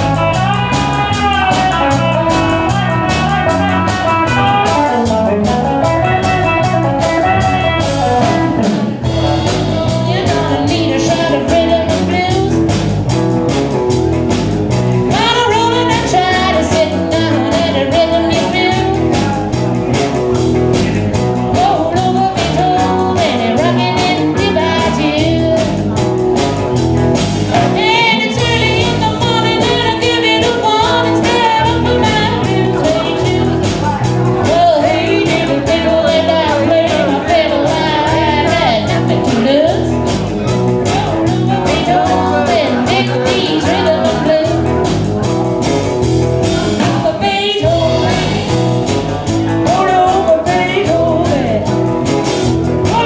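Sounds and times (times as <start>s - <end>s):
person singing: 0.0s - 13.2s, 15.0s - 26.5s, 27.4s - 45.7s, 46.4s - 53.0s
blues-rock guitar: 0.0s - 53.0s
steady drum beat: 0.0s - 53.0s.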